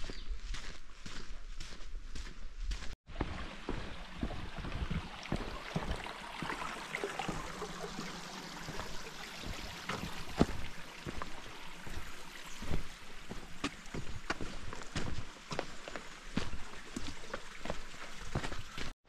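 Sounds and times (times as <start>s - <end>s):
footsteps on rocky trail: 0.0s - 5.9s, 8.6s - 19.0s
mountain stream flowing: 3.1s - 19.0s.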